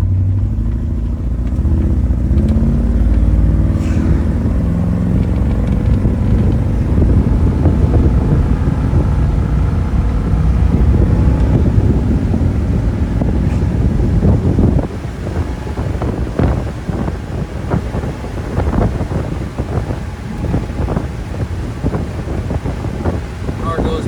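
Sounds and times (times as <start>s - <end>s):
car engine accelerating: 0.0s - 24.0s
road noise: 0.0s - 24.0s
wind noise: 0.0s - 24.0s.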